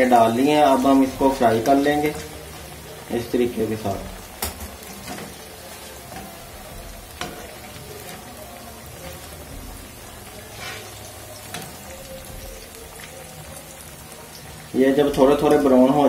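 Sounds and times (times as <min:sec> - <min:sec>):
deep-frying oil sizzling: 0:00.0 - 0:16.0.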